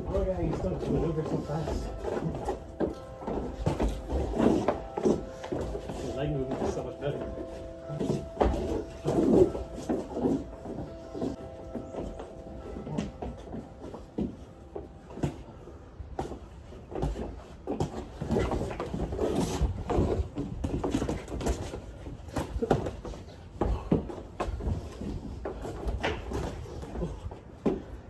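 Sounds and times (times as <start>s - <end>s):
feet shuffling: 0.0s - 28.0s.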